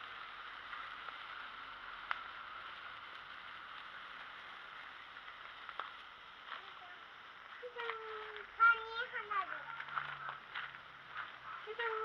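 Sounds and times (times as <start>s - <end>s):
sharp crackles: 0.0s - 12.0s
sparklers fizzing: 0.0s - 12.0s.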